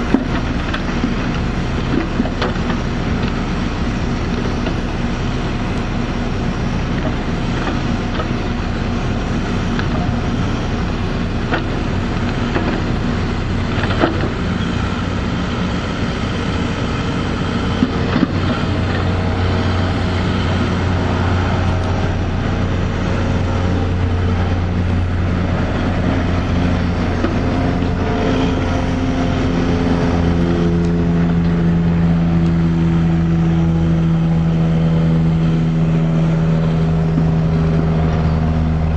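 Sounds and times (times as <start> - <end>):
backhoe diesel engine under load: 0.0 - 38.9.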